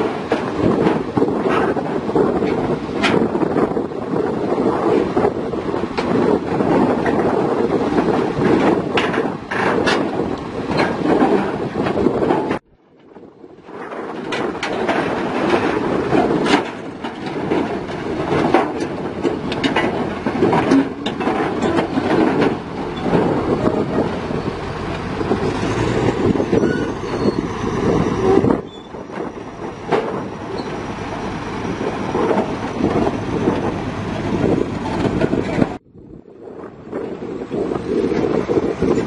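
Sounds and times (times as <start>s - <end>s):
steel tracks clanking: 0.0s - 35.8s
bulldozer diesel engine running: 0.0s - 39.0s.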